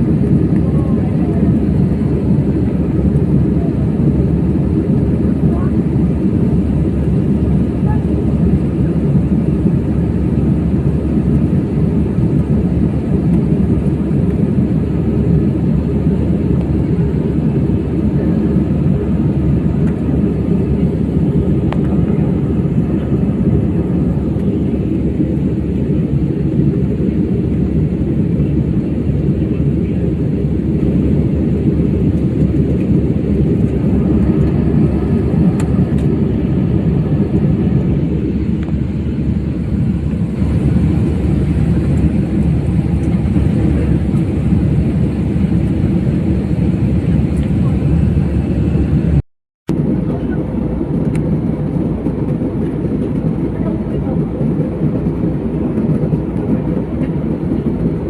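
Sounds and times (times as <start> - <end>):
airliner cabin jet drone: 0.0 - 58.0.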